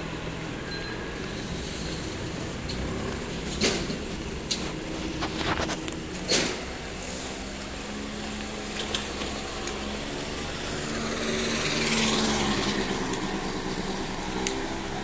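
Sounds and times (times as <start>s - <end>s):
vehicle engine passing: 1.4s - 15.0s.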